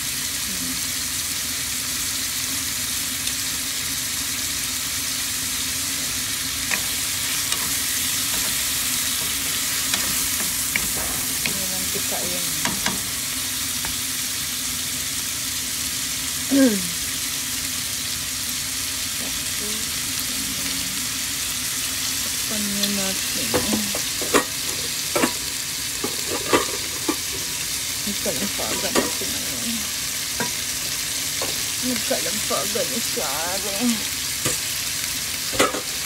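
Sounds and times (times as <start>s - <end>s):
chicken sizzling in a pan: 0.0s - 36.0s.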